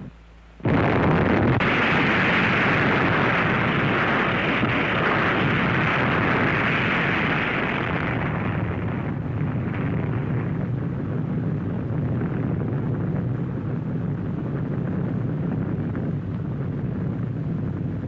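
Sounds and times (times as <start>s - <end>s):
bomb blast roar: 0.0s - 18.0s.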